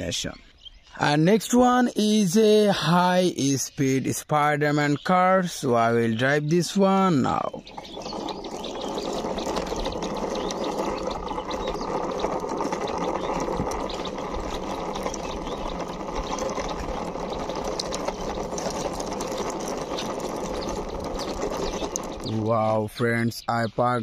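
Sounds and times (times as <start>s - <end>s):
toy car wheels grinding on concrete: 4.7s - 24.0s.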